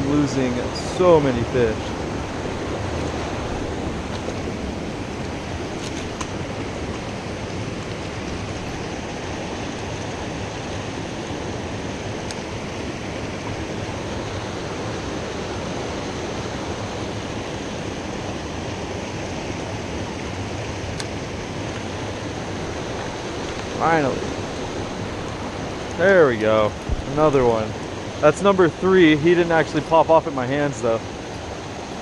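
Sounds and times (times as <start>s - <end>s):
water rushing over waterfall: 0.0s - 32.0s.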